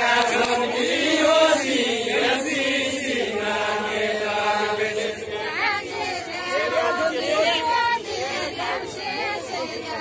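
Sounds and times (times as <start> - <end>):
group of voices chanting: 0.0 - 10.0.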